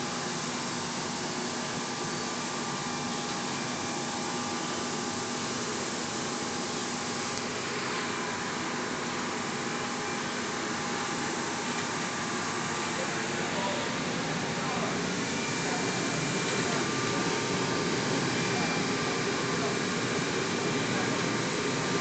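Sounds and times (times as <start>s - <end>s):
machine motors and conveyor: 0.0s - 22.0s.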